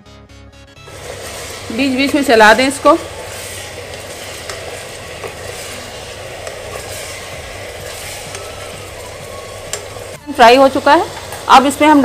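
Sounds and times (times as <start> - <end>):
meat sizzling in hot oil: 0.8 - 12.0.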